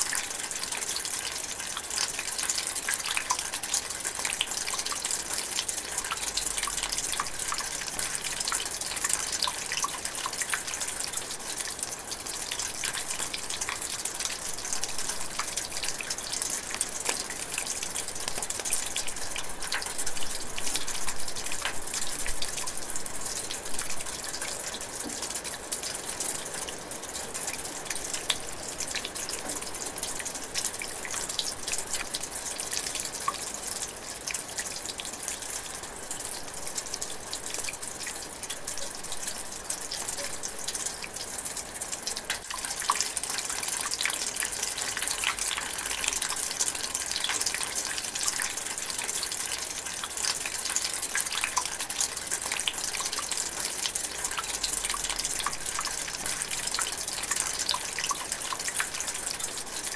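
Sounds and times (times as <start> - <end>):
light rain pattering and dripping: 0.0 - 59.9.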